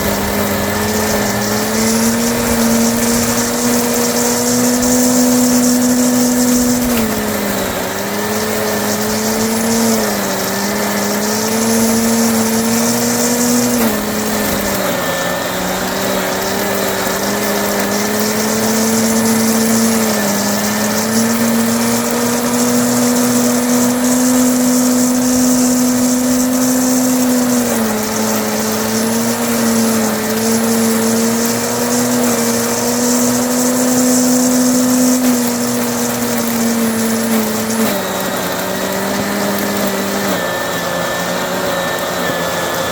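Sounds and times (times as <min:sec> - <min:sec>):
electric leaf mulcher shredding hay: 0:00.0 - 0:42.9.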